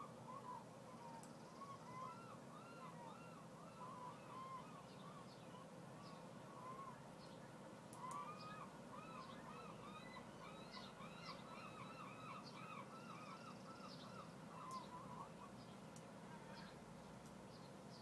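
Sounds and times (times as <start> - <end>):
faint bird calling: 0.0 - 16.9.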